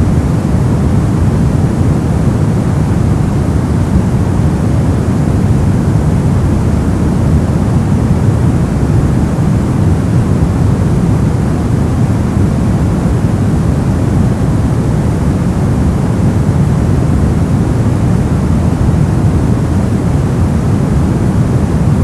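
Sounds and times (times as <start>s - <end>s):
brown noise: 0.0s - 22.0s.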